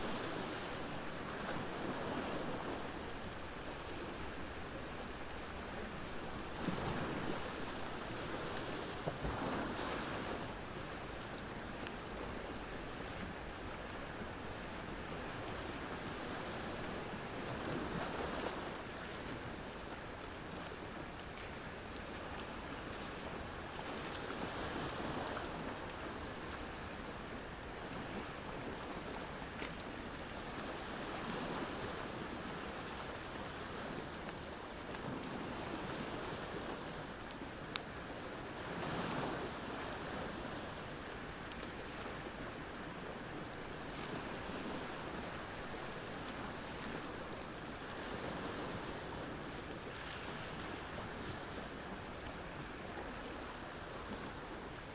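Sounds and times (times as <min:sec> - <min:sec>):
ocean waves washing ashore: 0:00.0 - 0:54.9.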